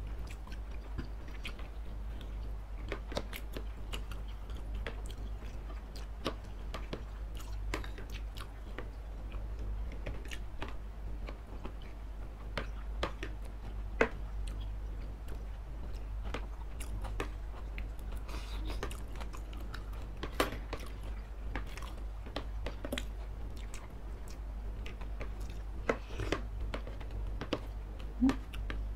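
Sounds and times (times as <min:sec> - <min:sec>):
people chewing soft food: 0:00.0 - 0:28.9.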